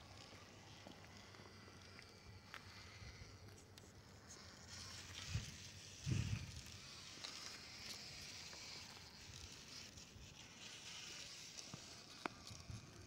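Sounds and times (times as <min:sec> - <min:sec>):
faint steady hiss: 0:00.0 - 0:13.0
small ticks: 0:00.0 - 0:13.0.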